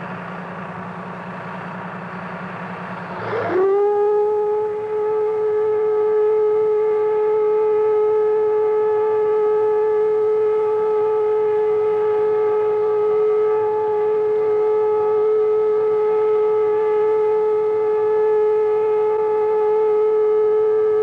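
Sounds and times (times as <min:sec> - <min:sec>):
distant whistle steady tone: 0:00.0 - 0:21.0.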